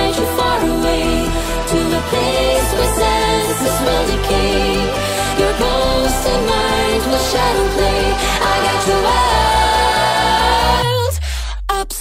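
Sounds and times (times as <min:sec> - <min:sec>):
song with vocals over a beat: 0:00.0 - 0:12.0.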